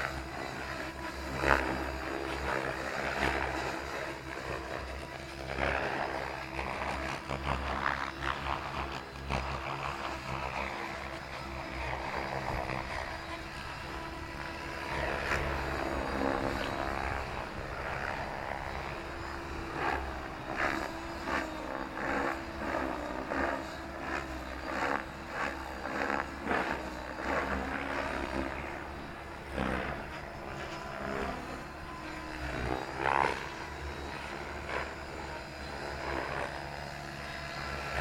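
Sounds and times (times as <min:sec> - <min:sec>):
model helicopter rotor and motor: 0:00.0 - 0:38.0.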